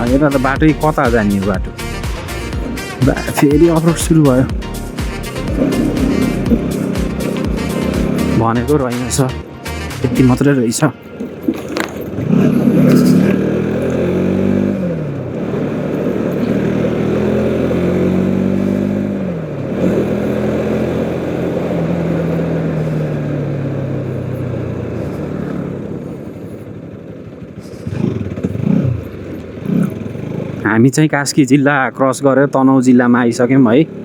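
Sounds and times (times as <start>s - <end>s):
motorcycle engine accelerating: 0.0s - 34.0s
road and wind noise: 0.0s - 34.0s.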